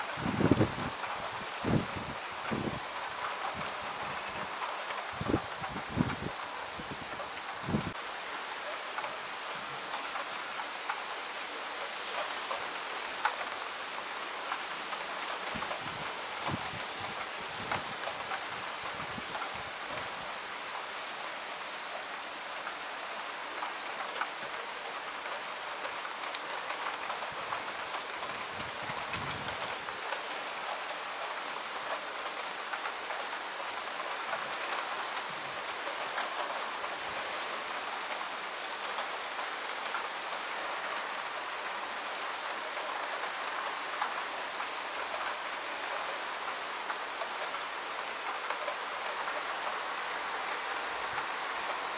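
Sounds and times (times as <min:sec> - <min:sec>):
raindrops ticking close by: 0:00.0 - 0:51.9
steady rain falling: 0:00.0 - 0:51.9.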